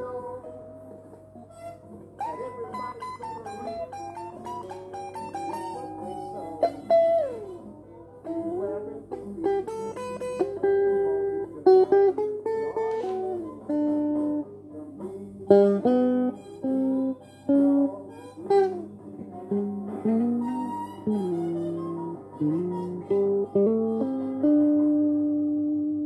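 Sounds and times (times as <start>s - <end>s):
electric guitar lead line: 0.0s - 26.0s.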